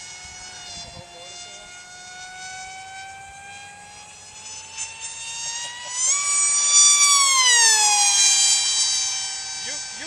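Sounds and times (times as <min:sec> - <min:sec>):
model jet motor whining: 0:00.0 - 0:10.0.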